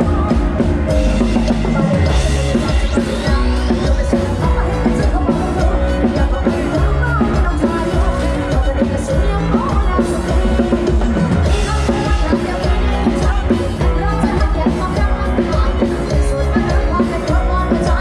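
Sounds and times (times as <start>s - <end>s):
driving drum and bass beat: 0.0s - 18.0s
live band music: 0.0s - 18.0s.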